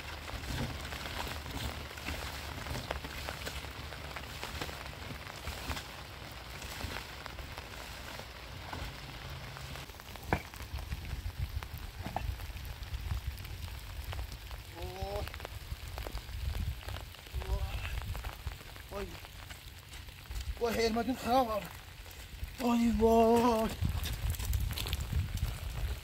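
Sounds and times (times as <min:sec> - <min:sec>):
rain on a tarp roof: 0:00.0 - 0:26.0.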